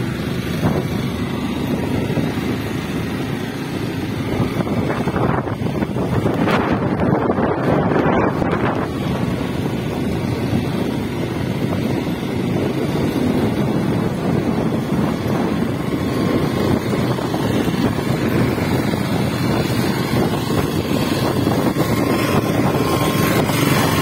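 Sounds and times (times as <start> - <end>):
motorcycle engine: 0.0 - 24.0
road noise: 0.0 - 24.0
wind buffeting microphone: 0.0 - 24.0.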